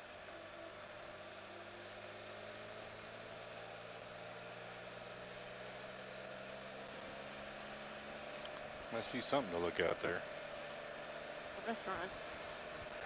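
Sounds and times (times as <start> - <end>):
engine running at low speed: 0.0 - 13.0.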